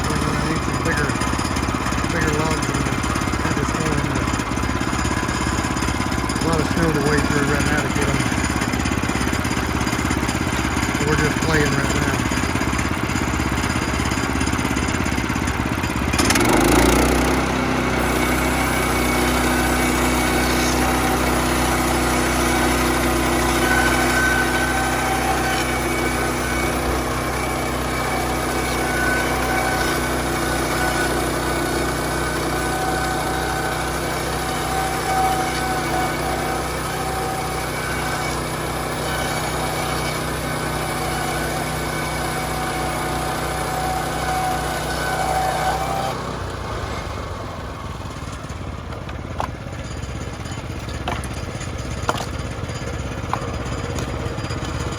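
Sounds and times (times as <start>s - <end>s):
small gasoline engine running: 0.0s - 54.9s.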